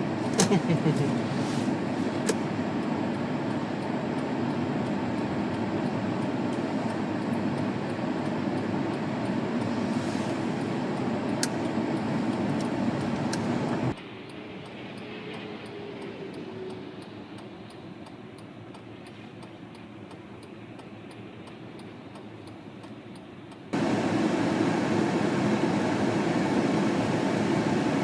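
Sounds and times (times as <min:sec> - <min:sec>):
car road and tyre noise: 0:00.0 - 0:28.0.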